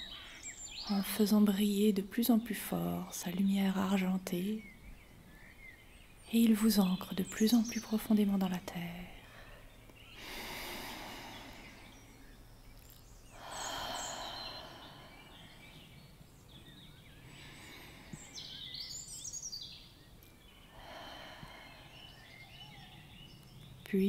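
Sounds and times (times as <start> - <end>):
birds chirping: 0.0 - 24.0
low steady hum: 0.0 - 24.0.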